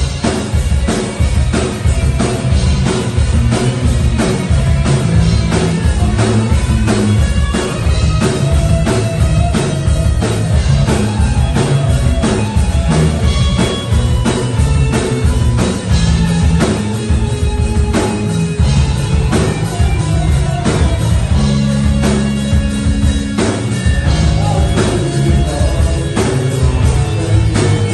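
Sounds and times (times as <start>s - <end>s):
drum kit beat: 0.0s - 27.9s
live rock band playing: 0.0s - 27.9s.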